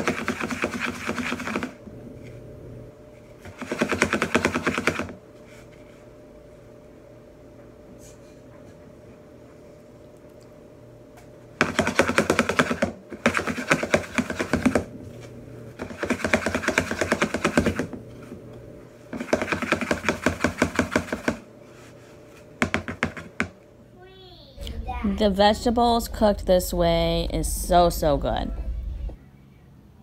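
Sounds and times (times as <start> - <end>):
steady low hum: 0.0 - 4.4, 5.1 - 30.0.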